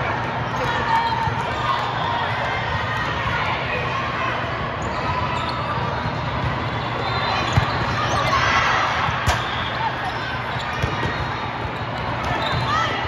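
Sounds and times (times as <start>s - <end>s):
many voices in echoing hall: 0.0s - 13.0s.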